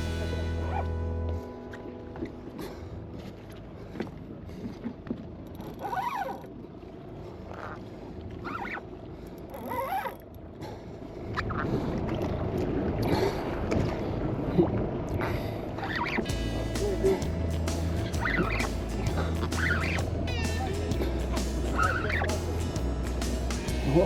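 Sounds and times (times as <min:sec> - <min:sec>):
boat engine: 0:00.0 - 0:24.0
water against hull: 0:00.0 - 0:24.0.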